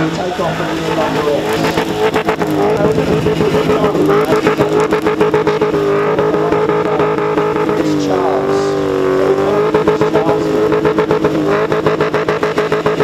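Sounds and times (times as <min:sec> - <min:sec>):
engine at high revs: 0:00.0 - 0:13.0.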